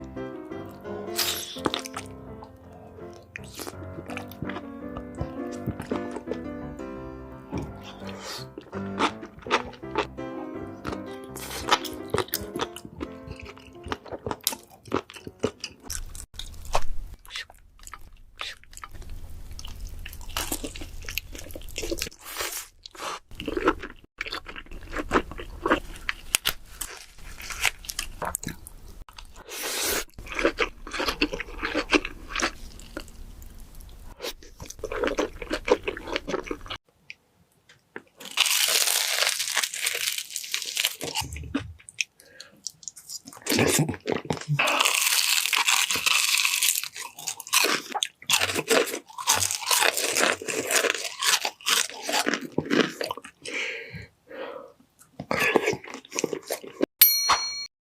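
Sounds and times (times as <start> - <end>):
person chewing crispy food: 0.7 - 6.4, 7.5 - 36.8, 37.9 - 54.1, 54.7 - 56.9.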